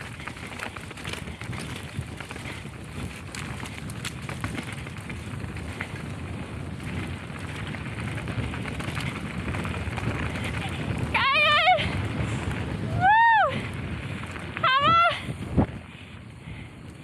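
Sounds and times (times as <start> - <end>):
bike clicks and rattles: 0.0 - 17.0
bike tyres crackling over dirt: 0.0 - 17.0
wind rumble on microphone: 0.0 - 17.0.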